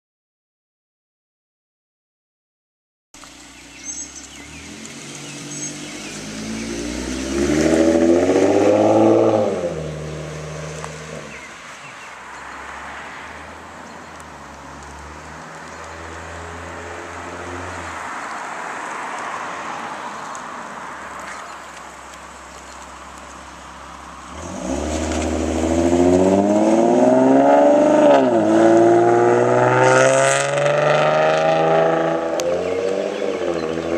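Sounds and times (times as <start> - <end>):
car engine revving: 3.6 - 33.9.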